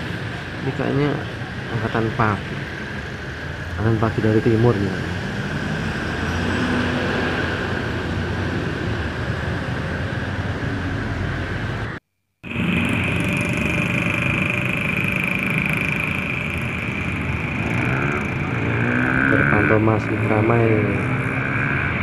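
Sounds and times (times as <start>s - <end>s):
road traffic drone: 0.0s - 22.0s
steady high whine: 0.0s - 22.0s.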